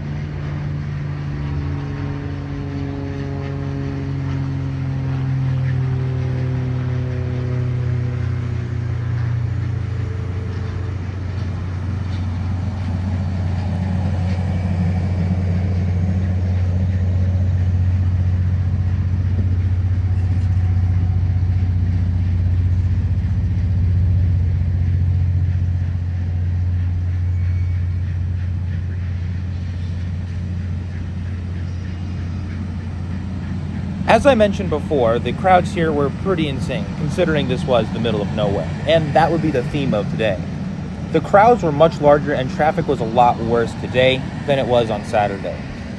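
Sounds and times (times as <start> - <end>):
train rumbling past: 0.0 - 45.9.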